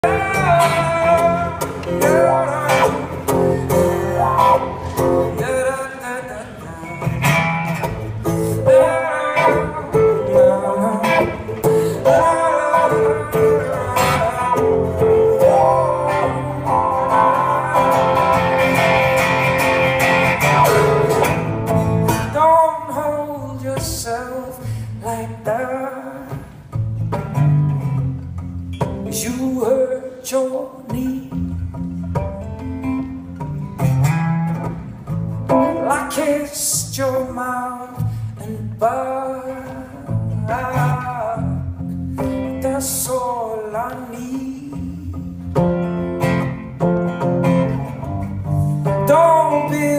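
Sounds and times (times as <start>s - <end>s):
person singing: 0.0s - 26.7s, 29.1s - 31.6s, 35.5s - 45.9s, 48.7s - 49.9s
acoustic guitar: 0.0s - 49.9s.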